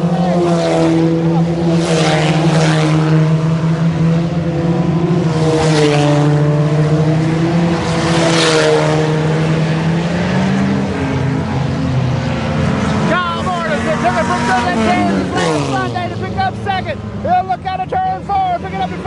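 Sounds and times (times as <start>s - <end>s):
cars sweeping past: 0.0s - 19.0s
race car engines: 0.0s - 19.0s.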